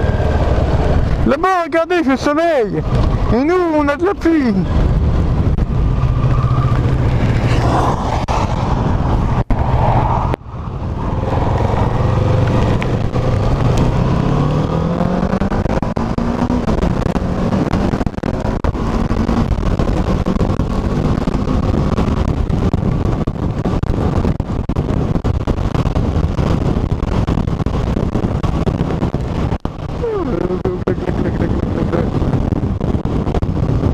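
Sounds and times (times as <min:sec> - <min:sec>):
motorcycle engine accelerating: 0:00.0 - 0:01.3, 0:02.8 - 0:33.9
wind rushing on microphone: 0:00.0 - 0:33.9.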